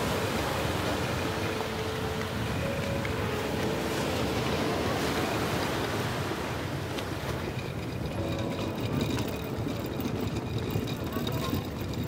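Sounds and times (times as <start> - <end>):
sea surf rushing: 0.0 - 10.4
wind buffeting the microphone: 0.0 - 12.0.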